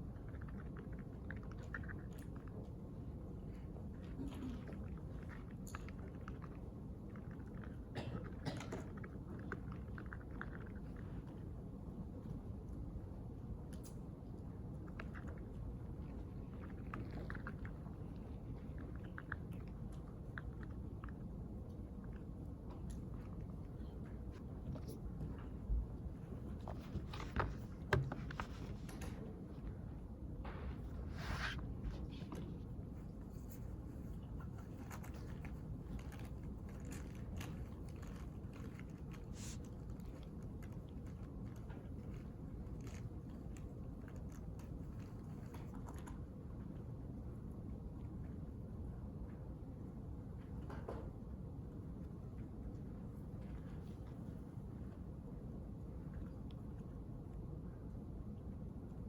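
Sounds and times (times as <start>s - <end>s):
steady low rumble: 0.0s - 50.6s.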